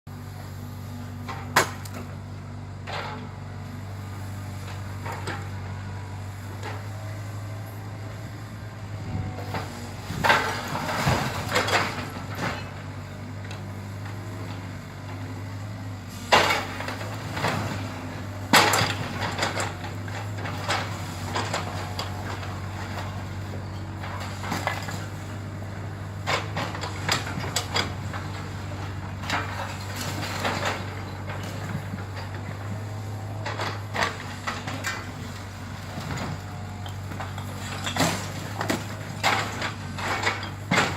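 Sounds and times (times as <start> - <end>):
engine humming: 0.1 - 40.9.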